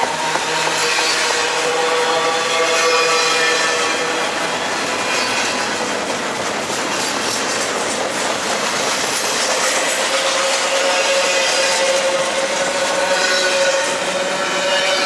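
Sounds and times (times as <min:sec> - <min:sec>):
train wheel hum: 0:00.0 - 0:15.0
train wheels rushing on rails: 0:00.0 - 0:15.0.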